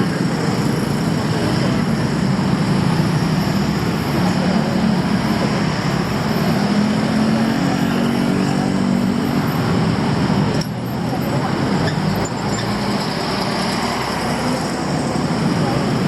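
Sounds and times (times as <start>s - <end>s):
city hum: 0.0s - 16.0s
vehicle engines running: 0.0s - 16.0s.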